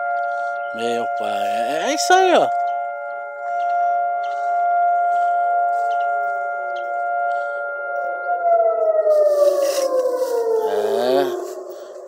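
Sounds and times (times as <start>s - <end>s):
air raid siren: 0.0s - 12.0s.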